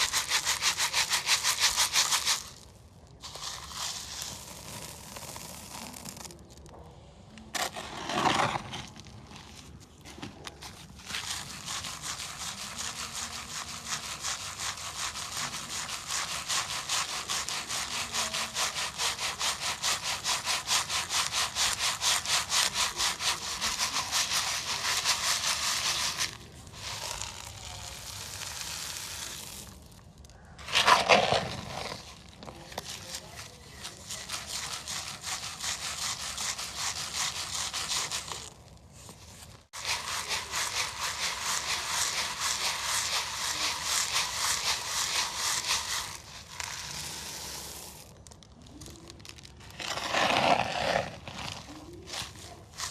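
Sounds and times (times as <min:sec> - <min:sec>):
cement powder shaken through sieve: 0:00.0 - 0:52.9.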